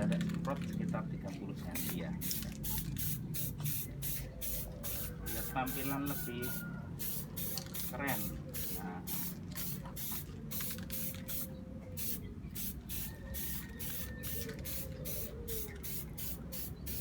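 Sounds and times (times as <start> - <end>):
aerosol spray can hissing: 1.8 - 17.0.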